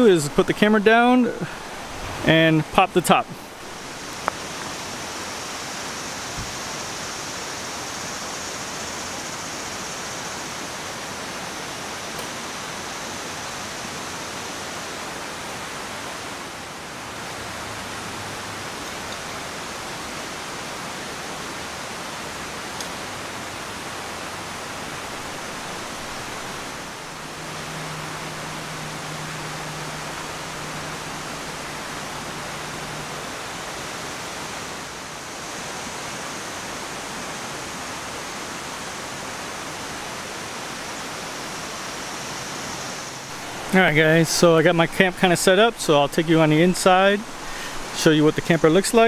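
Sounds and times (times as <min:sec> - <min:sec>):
river rushing: 0:00.0 - 0:49.0.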